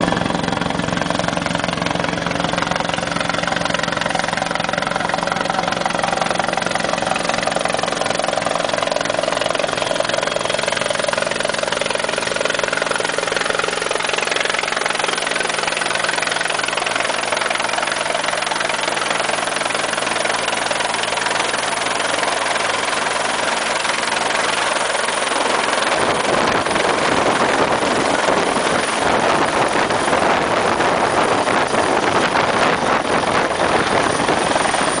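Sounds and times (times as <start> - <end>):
helicopter engine and rotor: 0.0 - 35.0
rushing wind-like noise: 0.0 - 35.0.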